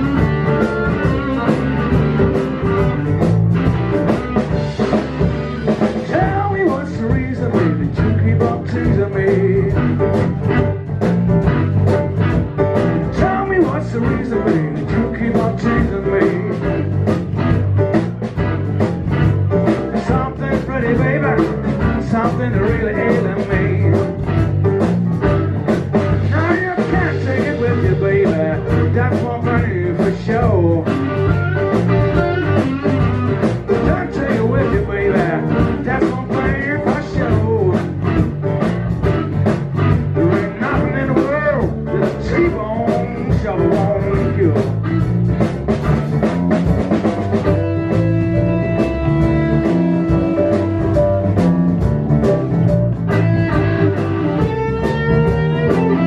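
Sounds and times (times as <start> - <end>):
drum kit beat: 0.0 - 56.0
electric bass: 0.0 - 56.0
electric guitar: 0.0 - 56.0
keyboard: 0.0 - 56.0.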